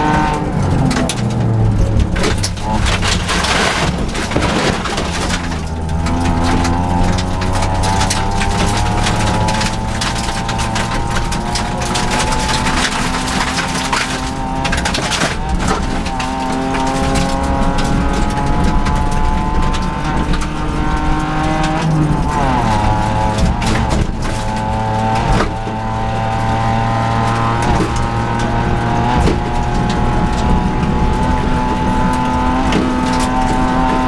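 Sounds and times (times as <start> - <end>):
gravel rattling against car underside: 0.0 - 34.0
rally car engine revving: 0.0 - 34.0.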